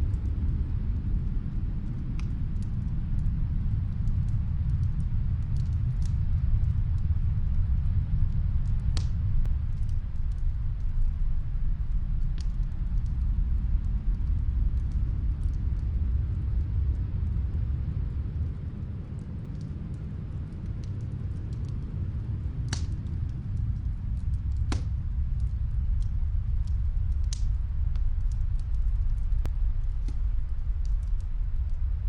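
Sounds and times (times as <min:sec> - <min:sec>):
wind rumbling: 0:00.0 - 0:32.0
wood fire crackling pops: 0:04.0 - 0:32.0.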